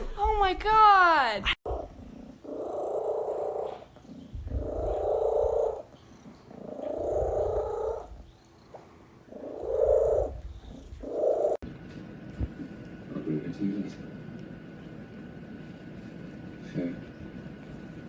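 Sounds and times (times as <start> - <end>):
cat purring: 1.7 - 18.0.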